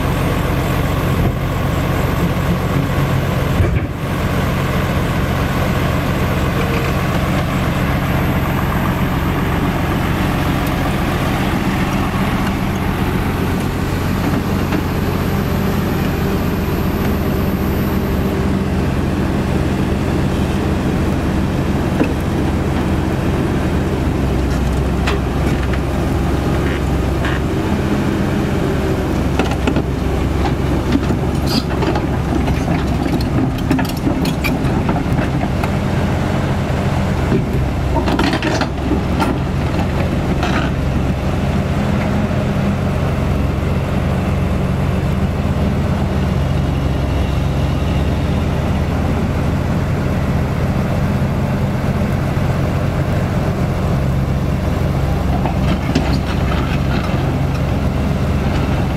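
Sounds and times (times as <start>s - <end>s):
heavy diesel engines running: 0.0s - 58.9s.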